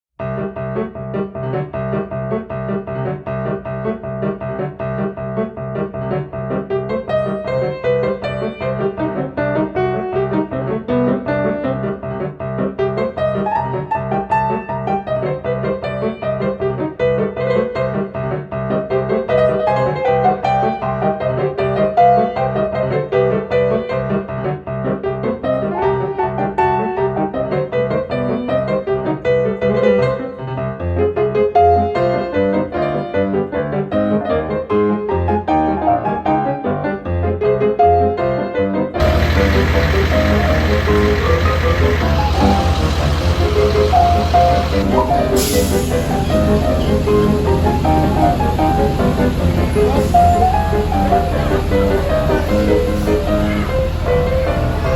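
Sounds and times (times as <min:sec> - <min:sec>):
piano background music: 0:00.2 - 0:54.9.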